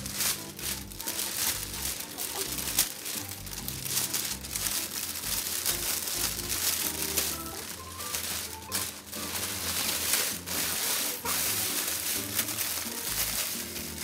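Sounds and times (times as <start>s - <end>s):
background music: 0.0s - 14.0s
cellophane crinkling: 0.0s - 14.0s.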